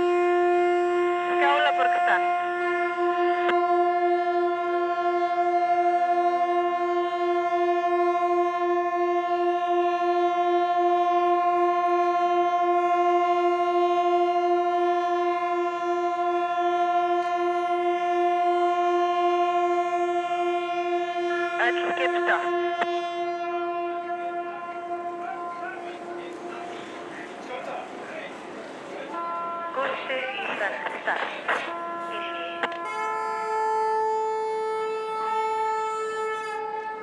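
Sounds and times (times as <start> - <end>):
wavering horn tone: 0.0 - 27.2, 31.7 - 37.0
ships' horns sounding a chord: 0.0 - 27.6, 29.1 - 30.9, 31.5 - 37.0.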